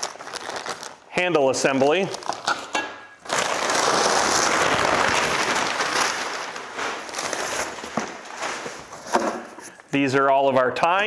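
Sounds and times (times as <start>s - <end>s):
packaging crinkling: 0.0s - 9.7s.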